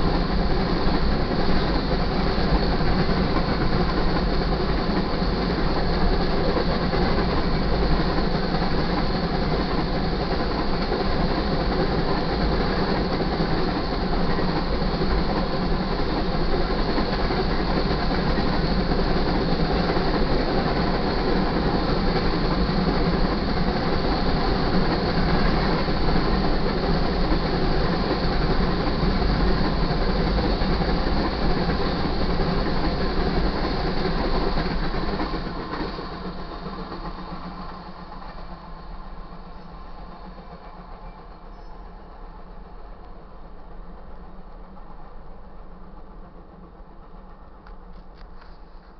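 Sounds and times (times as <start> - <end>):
freight train rolling past: 0.0 - 48.9.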